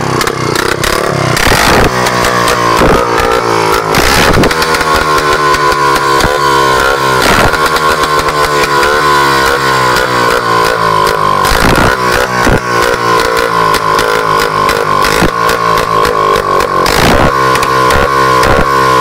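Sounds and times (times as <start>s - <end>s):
engine crackles: 0.0s - 19.0s
two-stroke motorcycle engine running: 0.0s - 19.0s.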